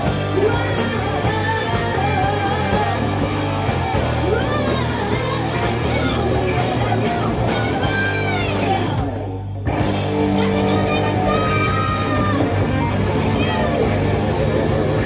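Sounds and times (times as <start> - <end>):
hard rock music with singing: 0.0 - 15.0.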